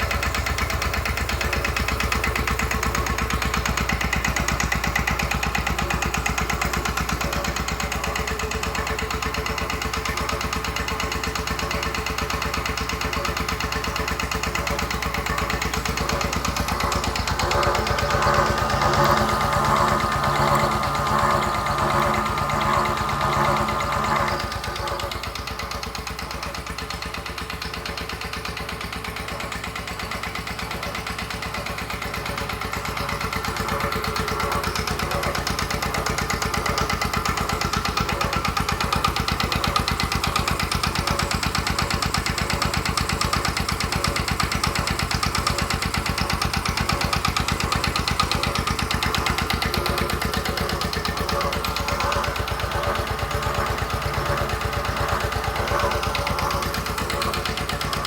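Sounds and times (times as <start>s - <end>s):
stationary engine running: 0.0s - 58.0s.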